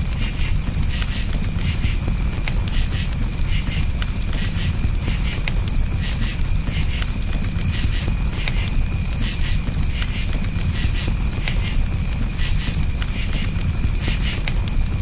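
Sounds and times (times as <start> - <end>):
campfire popping and crackling: 0.0 - 15.0
crickets chirping: 0.0 - 15.0.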